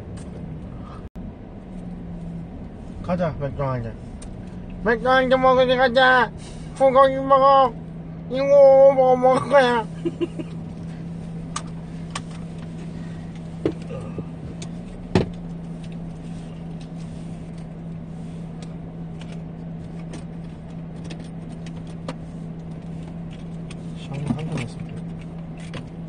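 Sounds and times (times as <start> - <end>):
car cabin hum: 0.0 - 26.0.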